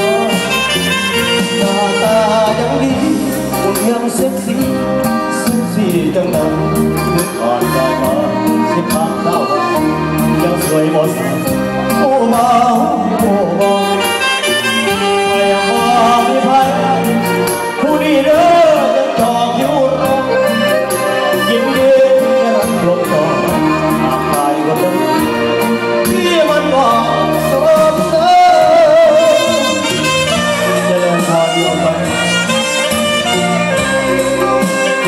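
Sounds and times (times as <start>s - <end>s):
wavering lead melody: 0.0s - 35.0s.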